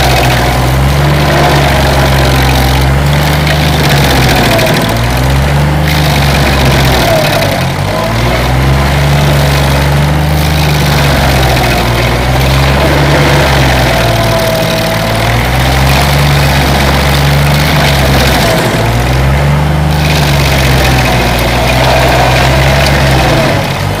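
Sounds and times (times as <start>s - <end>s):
loud grinding noise: 0.0s - 24.0s
stump grinder engine running: 0.0s - 24.0s.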